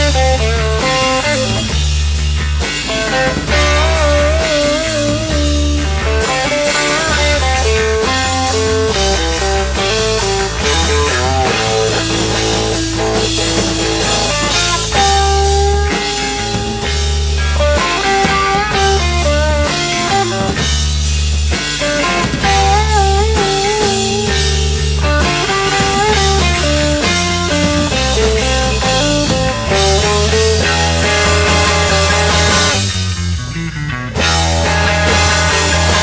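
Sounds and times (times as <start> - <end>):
bass line: 0.0 - 36.0
drums: 0.0 - 36.0
lead guitar with vibrato: 0.0 - 36.0.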